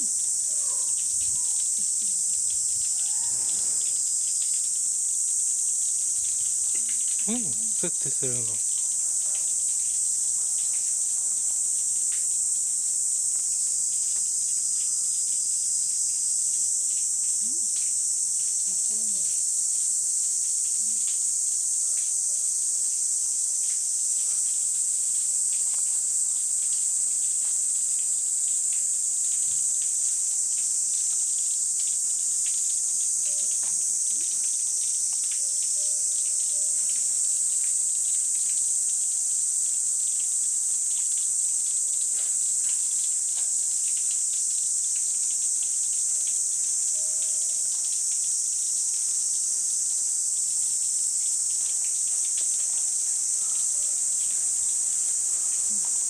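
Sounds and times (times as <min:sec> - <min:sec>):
cicadas singing: 0:00.0 - 0:56.0.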